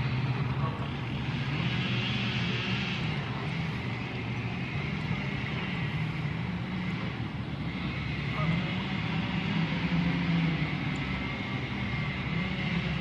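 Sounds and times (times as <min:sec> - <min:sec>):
highway traffic hum: 0:00.0 - 0:13.0.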